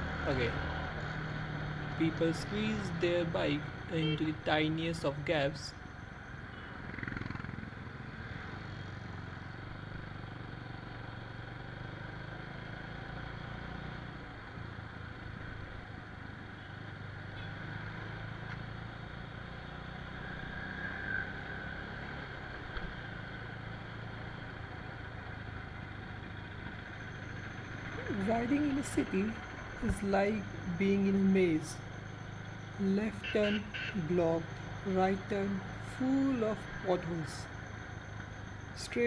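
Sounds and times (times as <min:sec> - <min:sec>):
road and traffic noise: 0:00.0 - 0:39.0.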